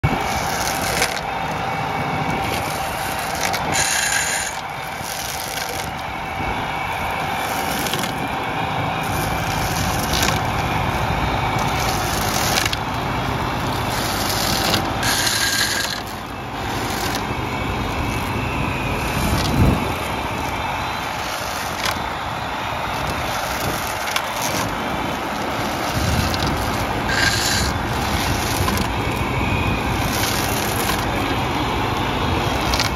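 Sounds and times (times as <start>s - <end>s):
rotor cords thrashing vine trunks: 0.0s - 1.7s, 2.3s - 6.1s, 9.0s - 31.4s, 32.4s - 32.9s
tractor diesel engine running: 0.0s - 32.9s.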